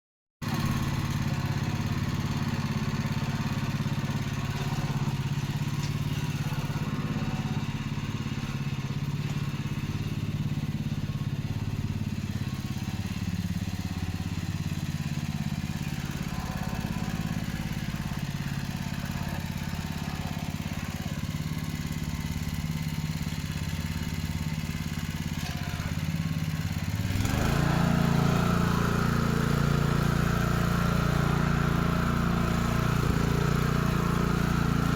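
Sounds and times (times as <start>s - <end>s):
small tractor engine running: 0.4s - 34.9s.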